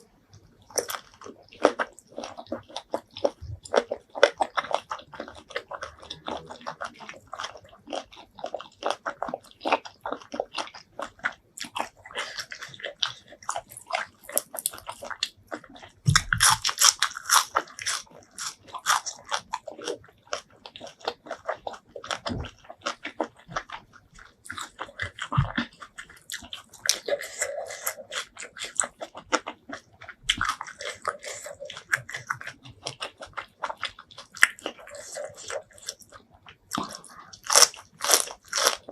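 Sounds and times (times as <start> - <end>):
person chewing seafood: 0.0 - 38.9.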